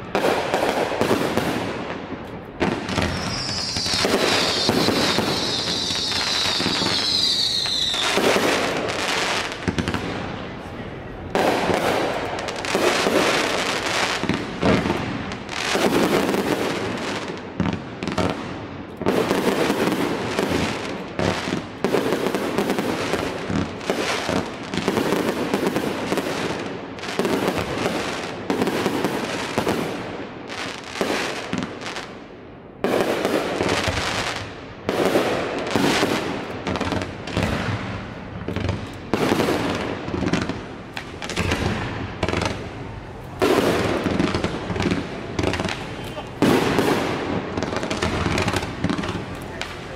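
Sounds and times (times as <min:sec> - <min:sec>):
fireworks launching and bursting: 0:00.0 - 0:49.9.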